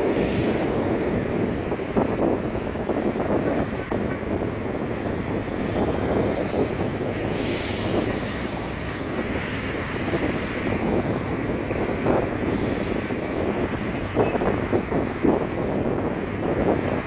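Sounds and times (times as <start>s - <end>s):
sea surf rushing: 0.0s - 17.0s
wind buffeting microphone: 0.0s - 17.0s.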